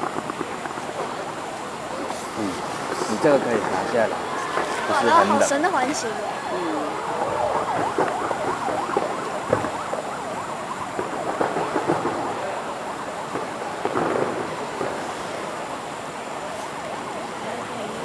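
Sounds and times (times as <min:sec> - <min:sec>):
firework bangs: 0:00.0 - 0:17.4.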